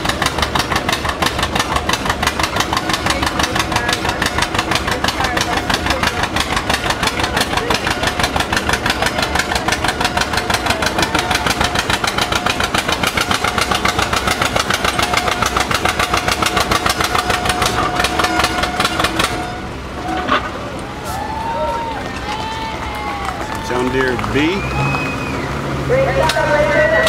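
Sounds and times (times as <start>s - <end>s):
tractor engine popping: 0.0s - 27.0s.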